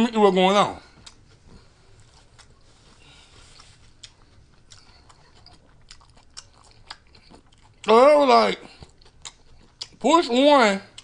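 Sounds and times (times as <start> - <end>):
person chewing food: 0.8 - 11.0.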